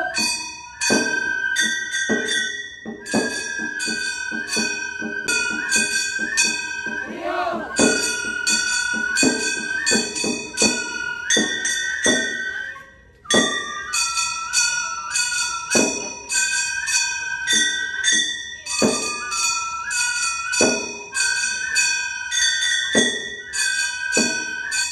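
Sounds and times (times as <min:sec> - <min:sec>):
bamboo flute melody: 0:00.0 - 0:24.9.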